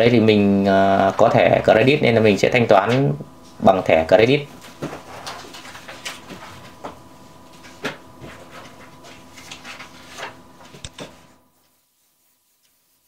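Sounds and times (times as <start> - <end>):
faint hum: 0.0 - 13.0
room hiss: 0.0 - 13.0.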